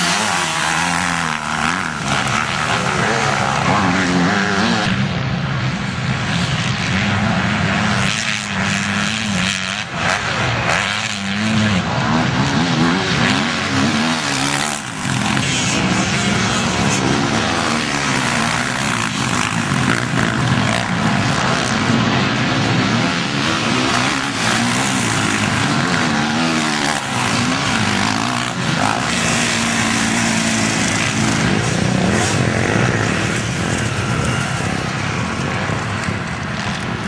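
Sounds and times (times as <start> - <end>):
motocross bikes revving: 0.0 - 37.0.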